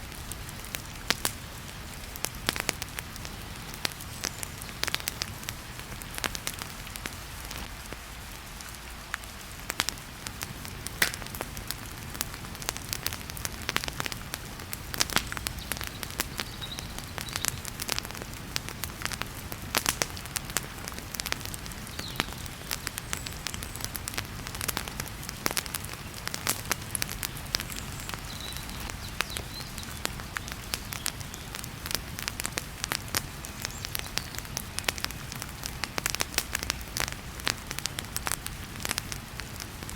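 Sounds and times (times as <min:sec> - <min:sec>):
heavy rain hiss: 0:00.0 - 0:39.9
wood fire crackling: 0:00.0 - 0:39.9.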